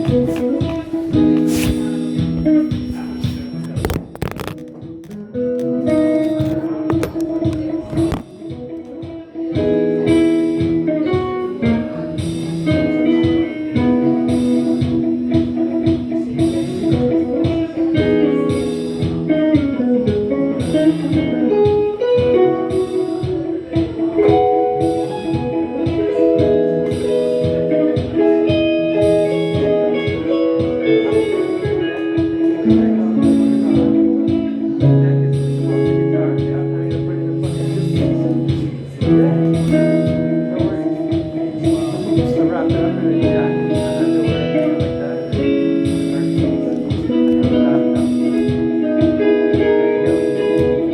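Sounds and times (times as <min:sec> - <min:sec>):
electric guitar jazz chords: 0:00.0 - 0:50.9.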